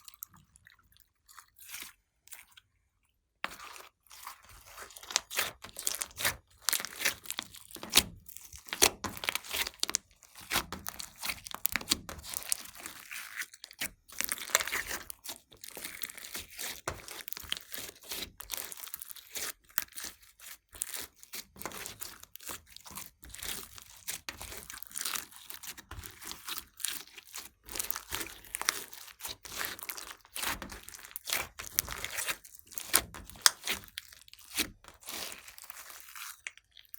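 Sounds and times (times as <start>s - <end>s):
slime crackling by hand: 4.2s - 20.2s, 20.8s - 36.9s.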